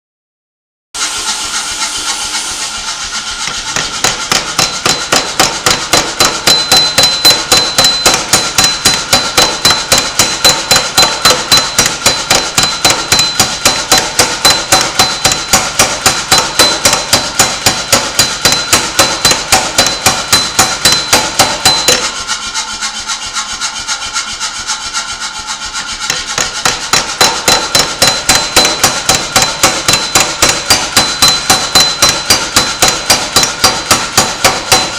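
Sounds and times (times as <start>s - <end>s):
high ringing tone: 1.0s - 22.2s, 26.1s - 34.9s
power hammer striking metal: 1.0s - 22.8s, 25.6s - 34.9s.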